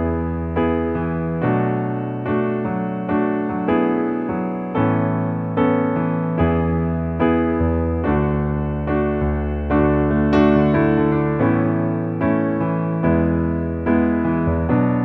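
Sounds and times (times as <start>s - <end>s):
electric piano chords: 0.0s - 15.0s.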